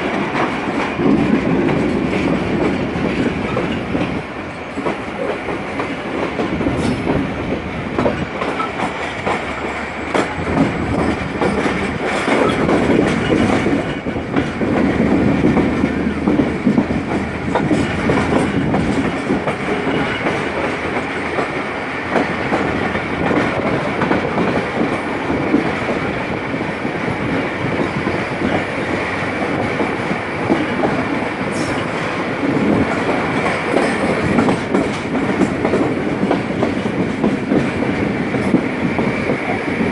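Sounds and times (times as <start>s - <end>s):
train running rumble: 0.0s - 39.9s
train wheels clacking over rail joints: 0.0s - 39.9s.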